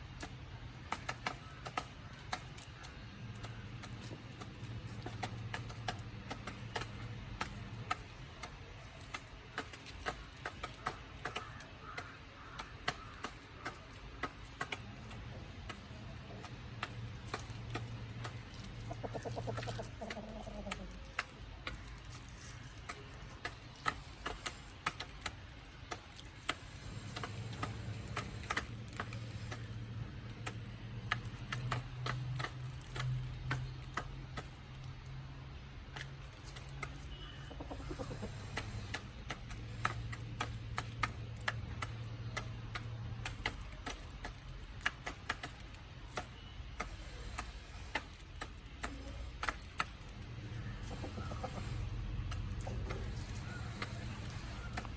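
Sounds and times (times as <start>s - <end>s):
chickens pecking at feed: 0.0s - 54.9s.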